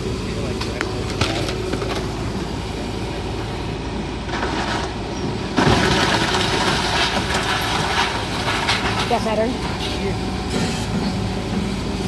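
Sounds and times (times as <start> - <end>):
diesel machinery running: 0.0 - 12.0.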